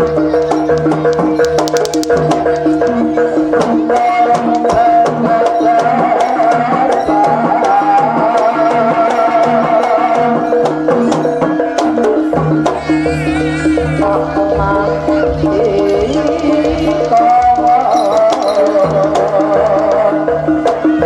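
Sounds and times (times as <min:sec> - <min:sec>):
drum and gong-chime ensemble: 0:00.0 - 0:19.3.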